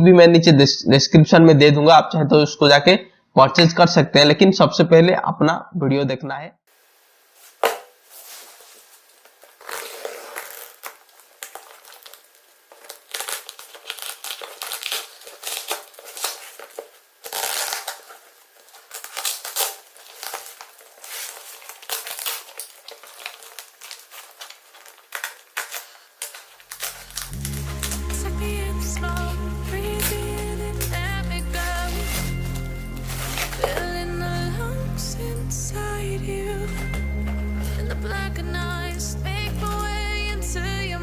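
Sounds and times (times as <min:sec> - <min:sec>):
packaging crinkling: 0:07.4 - 0:40.6.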